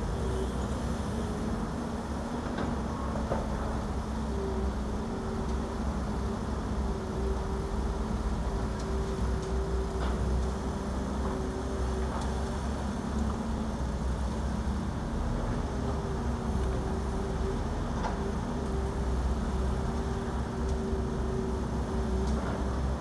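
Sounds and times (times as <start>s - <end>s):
diesel machinery engine drone: 0.0s - 23.0s.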